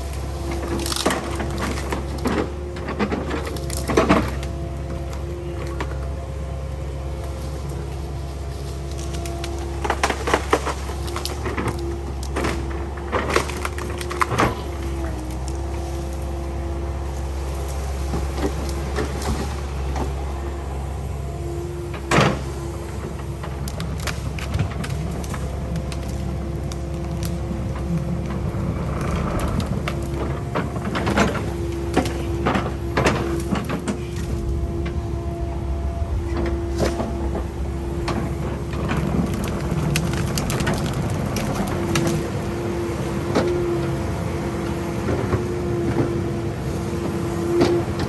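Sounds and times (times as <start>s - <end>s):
excavator engine humming: 0.0s - 48.0s.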